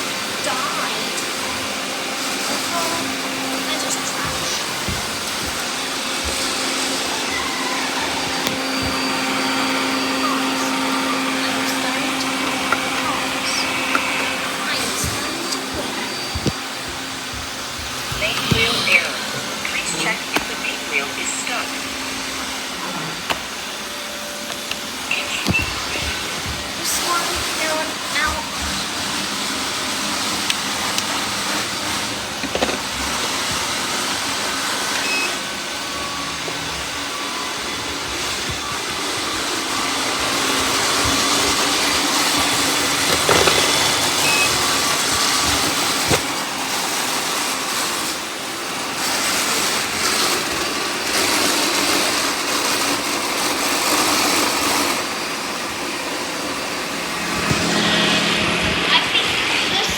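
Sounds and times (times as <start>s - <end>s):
robot vacuums whirring: 0.0s - 59.9s.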